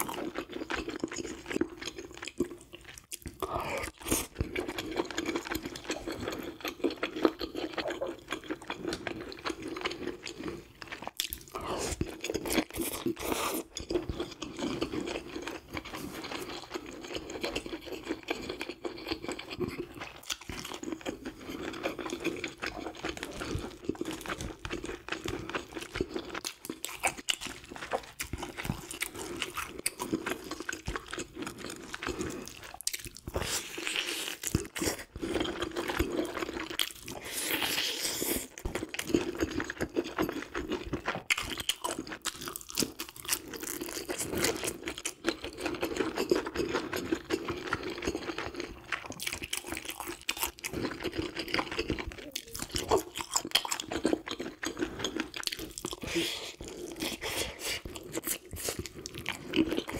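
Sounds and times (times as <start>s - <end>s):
chewing with crunches: 0.0s - 59.9s.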